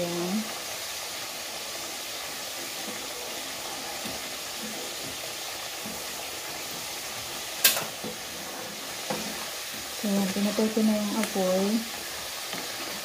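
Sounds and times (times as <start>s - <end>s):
oil sizzling in a wok: 0.0s - 13.0s
wooden spatula scraping: 2.1s - 13.0s.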